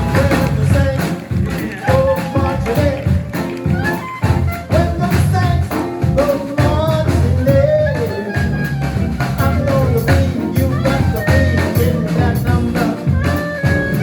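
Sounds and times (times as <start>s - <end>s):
drums: 0.0s - 14.0s
live band playing: 0.0s - 14.0s.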